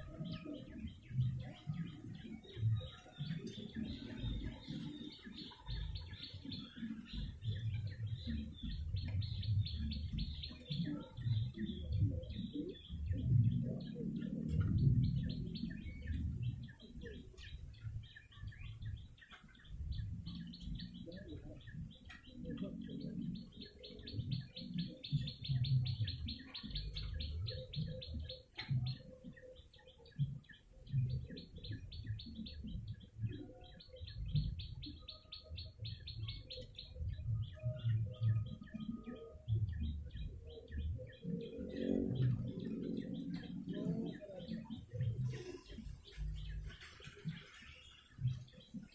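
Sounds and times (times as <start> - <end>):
songbird chattering trills: 0.0 - 48.9.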